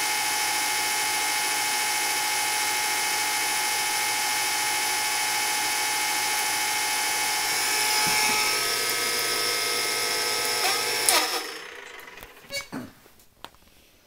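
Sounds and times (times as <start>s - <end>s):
film projector whirring: 0.0s - 12.7s.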